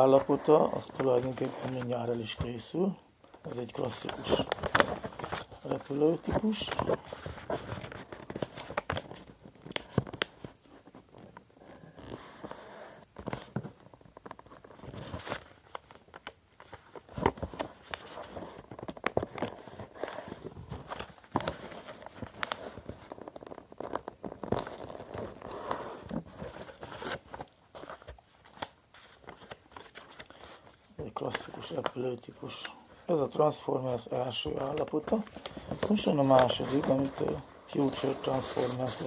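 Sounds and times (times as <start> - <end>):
paper rustling and crinkling: 0.0 - 39.0.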